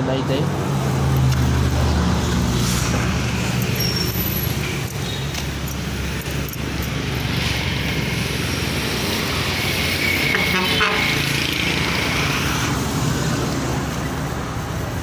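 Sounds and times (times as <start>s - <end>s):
street traffic: 0.0s - 15.0s
vehicle engine humming: 0.0s - 15.0s.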